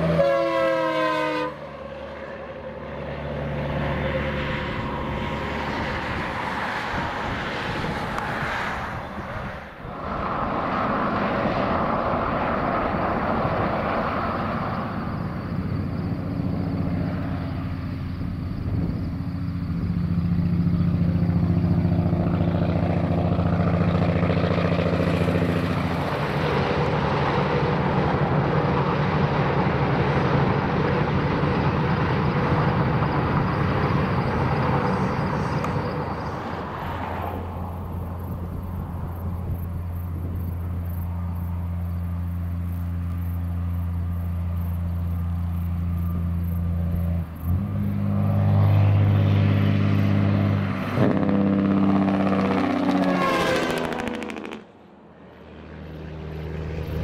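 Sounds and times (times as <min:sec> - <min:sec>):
truck engine drone passing: 0:00.0 - 0:57.0.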